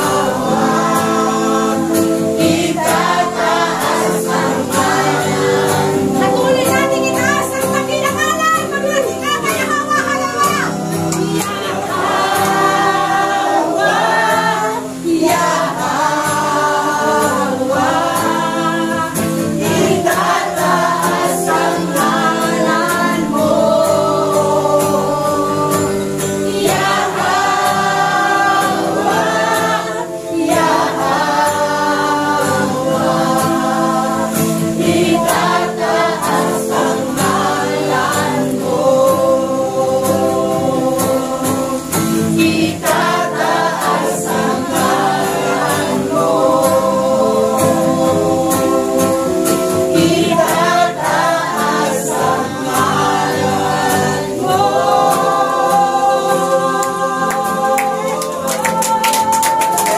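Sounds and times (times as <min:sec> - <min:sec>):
electronic keyboard: 0:00.0 - 0:58.8
congregation singing in unison: 0:00.0 - 0:59.9.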